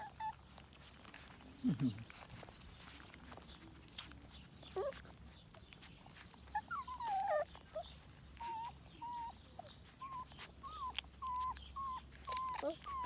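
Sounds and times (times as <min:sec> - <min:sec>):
high puppy squeaks: 0:00.0 - 0:13.0
puppies whimpering: 0:00.0 - 0:13.0.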